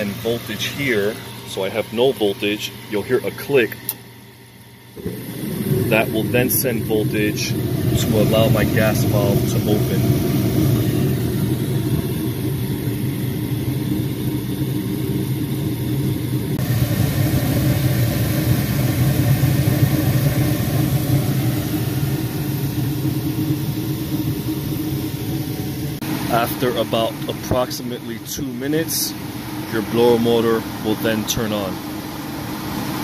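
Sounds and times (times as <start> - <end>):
draft inducer motor running: 0.0 - 32.1
gas burners firing: 4.9 - 33.0.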